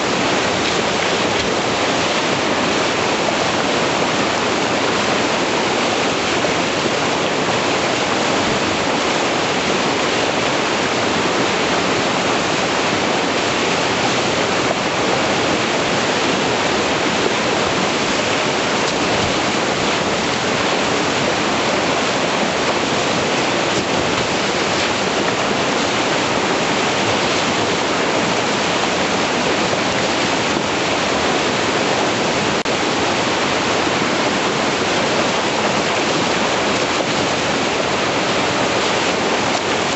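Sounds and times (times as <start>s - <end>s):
whitewater rushing through rapid: 0.0s - 39.9s.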